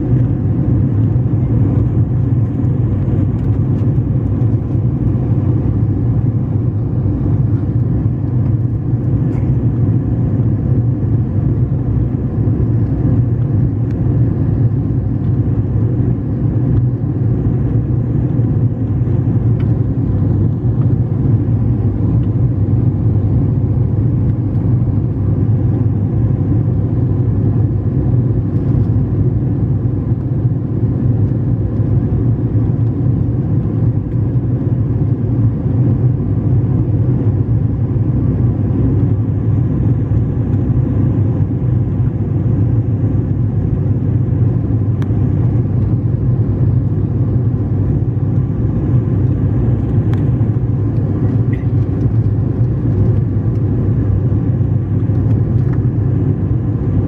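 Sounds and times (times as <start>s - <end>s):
airliner engine and airflow drone: 0.0s - 57.0s.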